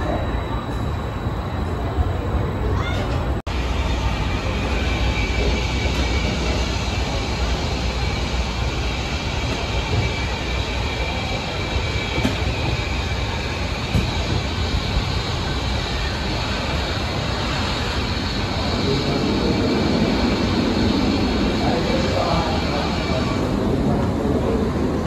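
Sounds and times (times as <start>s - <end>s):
roller coaster rumbling on track: 0.0s - 25.0s.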